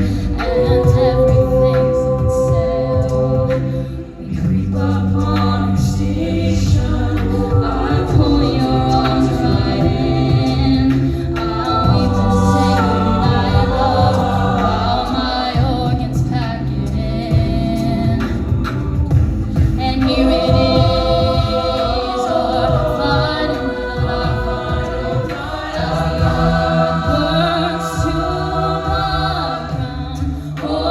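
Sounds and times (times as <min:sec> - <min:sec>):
a cappella group singing: 0:00.0 - 0:30.9.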